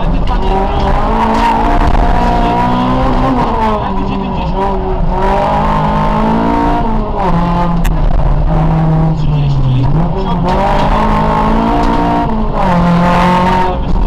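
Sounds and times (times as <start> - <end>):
rally car engine from inside cabin: 0.0 - 14.0.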